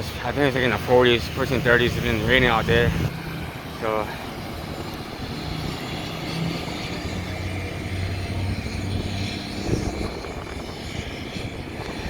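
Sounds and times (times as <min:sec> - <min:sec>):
road noise: 0:00.0 - 0:12.0
vehicle engine humming: 0:00.0 - 0:12.0.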